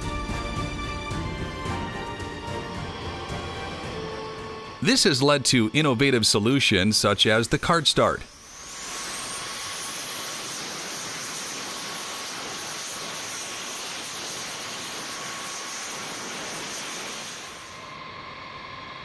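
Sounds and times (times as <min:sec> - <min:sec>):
jet engine whine rising: 0:00.0 - 0:19.0
loud rushing hiss: 0:00.0 - 0:19.0.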